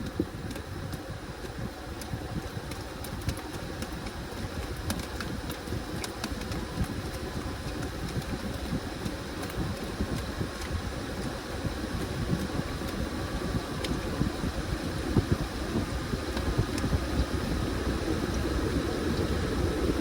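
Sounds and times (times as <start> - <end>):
washing machine rumbling: 0.0 - 20.0.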